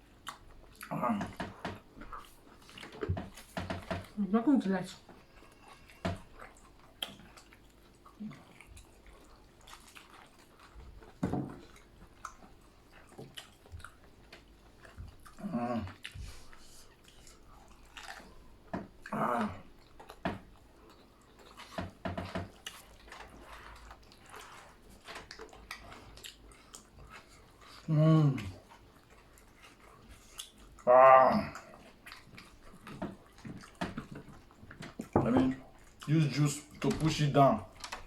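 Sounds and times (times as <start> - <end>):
wet chewing: 0.0 - 38.0.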